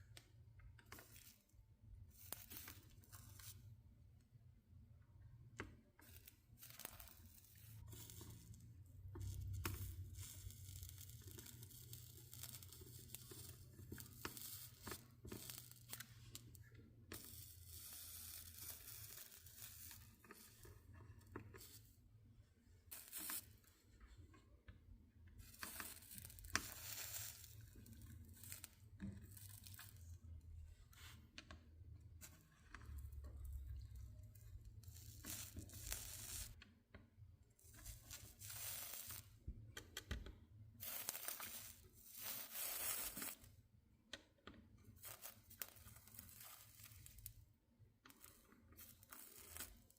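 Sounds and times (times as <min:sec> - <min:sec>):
soldering flux crackling sizzle: 0:00.0 - 0:24.4, 0:25.3 - 0:36.7, 0:37.5 - 0:43.7, 0:44.8 - 0:49.9.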